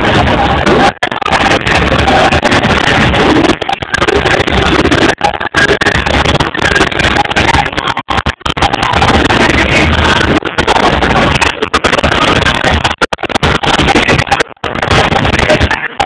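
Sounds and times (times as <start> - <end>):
crowd noise: 0.0 - 16.0.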